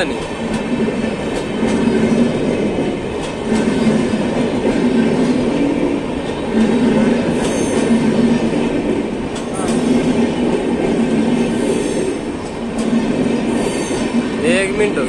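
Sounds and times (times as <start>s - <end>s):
train wheels rumbling on rails: 0.0s - 15.0s
wheels clicking over rail joints: 0.0s - 15.0s.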